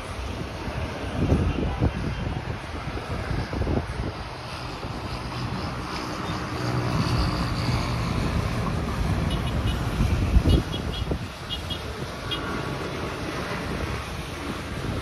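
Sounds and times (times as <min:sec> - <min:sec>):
street traffic: 0:00.0 - 0:15.0
wind buffeting microphone: 0:00.0 - 0:15.0.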